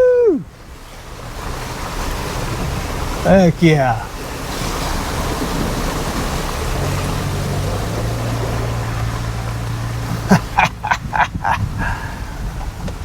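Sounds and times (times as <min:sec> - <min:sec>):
low engine hum: 0:00.0 - 0:13.0
tyres on wet dirt road: 0:00.0 - 0:13.0.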